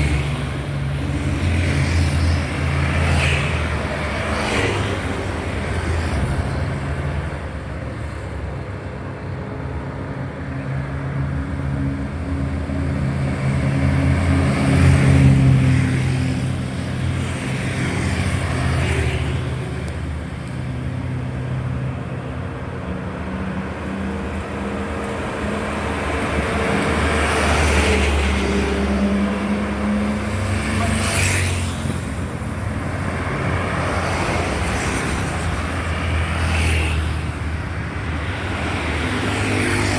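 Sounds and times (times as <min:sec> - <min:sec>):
vehicles driving past: 0:00.0 - 0:39.9.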